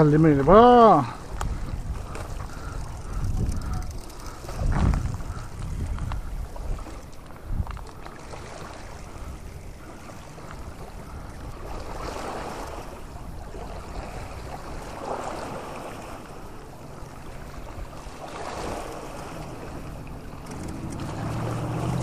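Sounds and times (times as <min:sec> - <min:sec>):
water lapping at shoreline: 0:00.0 - 0:22.0
wind rumble on microphone: 0:00.0 - 0:22.0.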